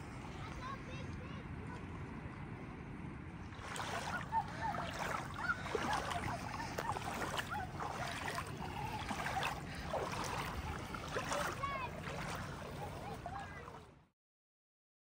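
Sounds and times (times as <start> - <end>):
feet wading through shallow water: 0.0 - 14.1.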